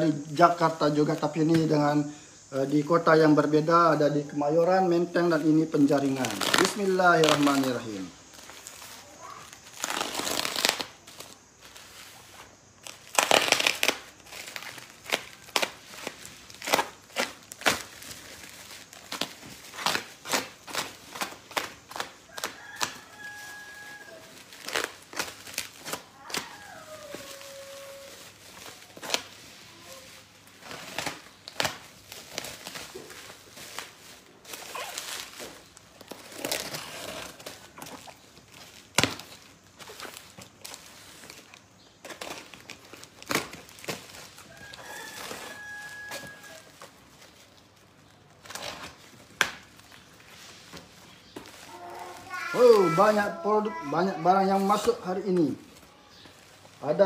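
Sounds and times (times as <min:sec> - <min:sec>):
plastic wrapping crinkling: 0:02.6 - 0:57.0
plastic ripping: 0:05.4 - 0:57.0.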